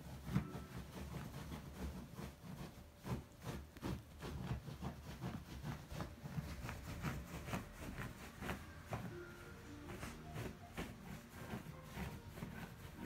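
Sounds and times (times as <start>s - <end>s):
dog scratching at fabric bed: 0.0s - 13.0s.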